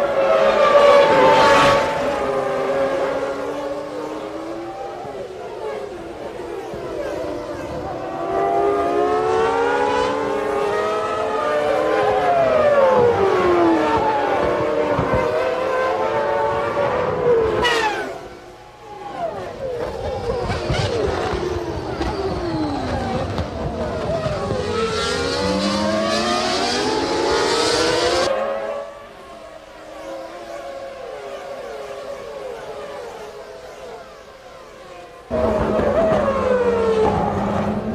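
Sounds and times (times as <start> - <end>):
racing car engines at high revs: 0.0 - 37.9.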